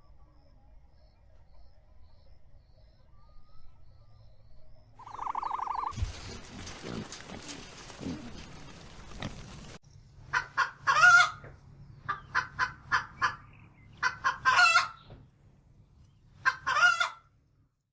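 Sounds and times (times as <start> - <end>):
low noisy animal sound: 0.0 - 15.3.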